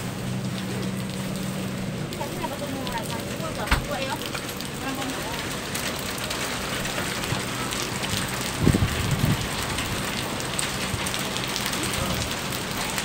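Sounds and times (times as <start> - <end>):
heavy rain on a wet street: 0.0 - 13.0.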